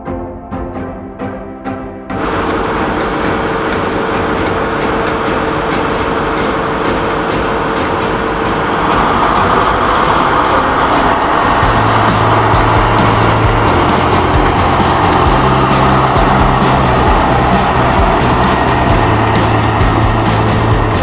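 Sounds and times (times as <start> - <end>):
diesel engine idling: 2.1 - 21.0
thin whine: 2.1 - 21.0.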